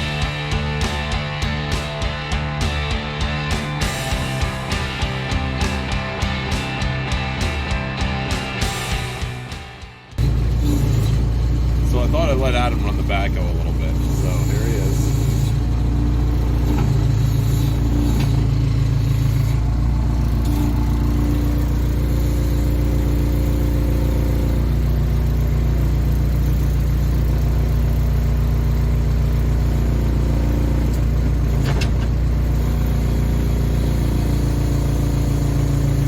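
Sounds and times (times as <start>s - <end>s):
backhoe diesel engine running: 0.0s - 36.0s.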